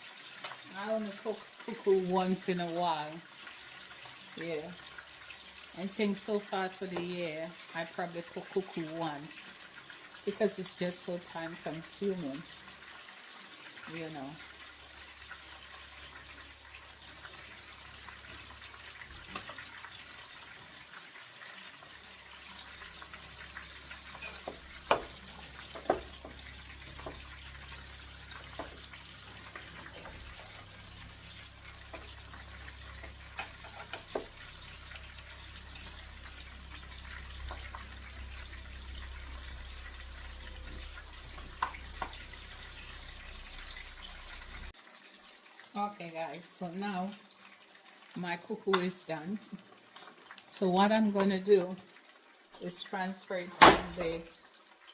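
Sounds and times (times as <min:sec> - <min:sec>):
pot hissing: 0:00.0 - 0:44.8.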